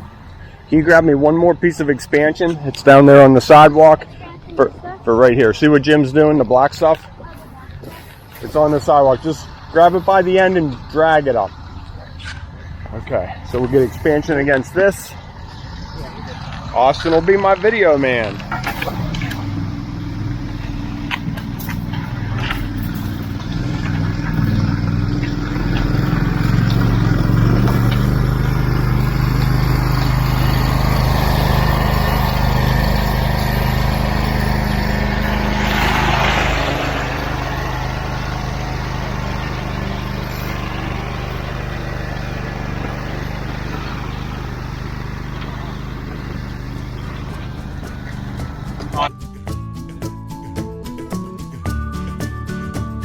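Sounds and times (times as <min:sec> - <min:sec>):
heavy engine running: 0:06.4 - 0:49.4.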